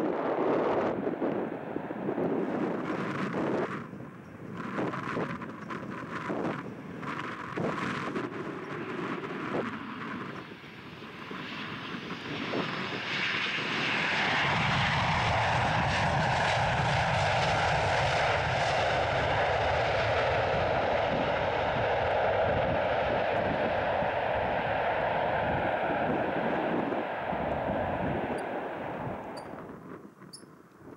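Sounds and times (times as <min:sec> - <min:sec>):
jet engine rumble with whine: 0:00.0 - 0:30.9
wind buffeting microphone: 0:00.0 - 0:30.9.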